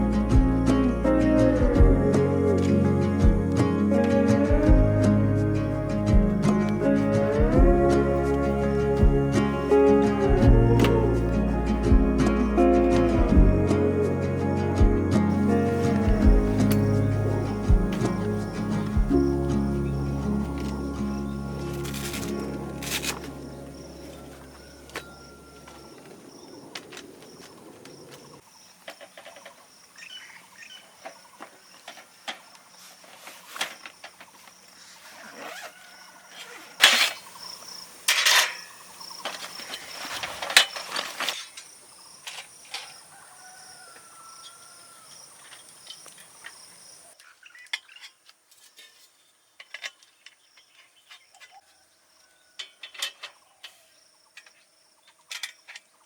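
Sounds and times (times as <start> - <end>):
crickets chirping: 0.0 - 48.1, 49.6 - 56.0.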